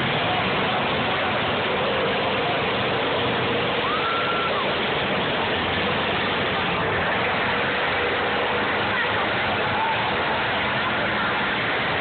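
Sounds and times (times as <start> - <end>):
car engines running: 0.0 - 12.0.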